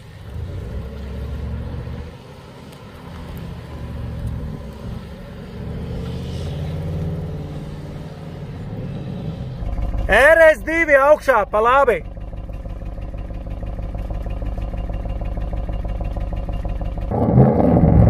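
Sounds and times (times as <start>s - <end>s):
car exhaust engine note: 3.1s - 18.0s.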